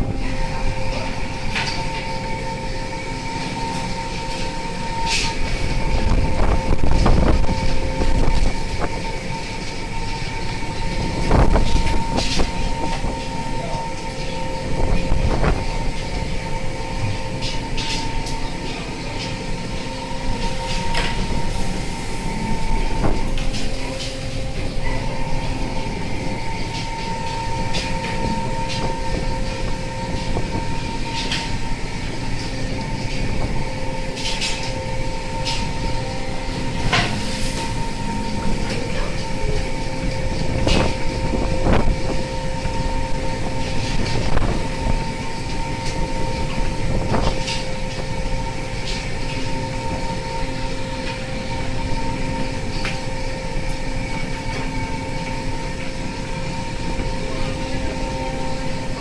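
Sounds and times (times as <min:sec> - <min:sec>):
boat engine rumble: 0:00.0 - 0:59.0.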